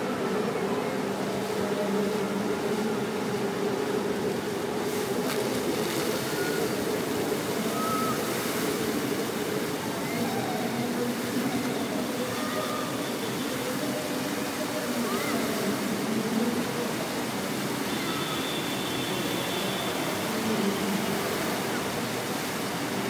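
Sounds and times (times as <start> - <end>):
water fountain splashing: 0.0 - 23.0.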